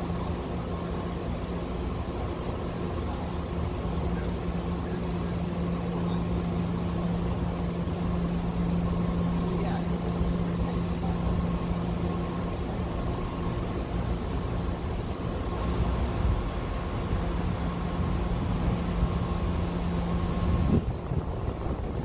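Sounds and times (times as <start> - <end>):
motor hum: 3.8 - 22.0.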